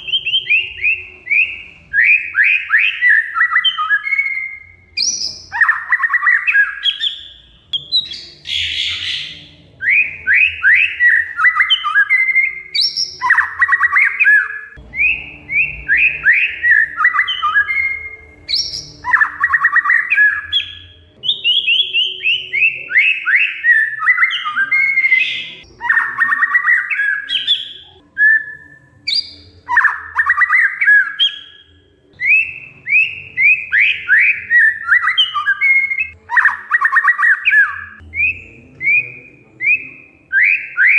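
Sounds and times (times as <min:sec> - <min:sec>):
bird singing trilled whistles: 0:00.0 - 0:40.9.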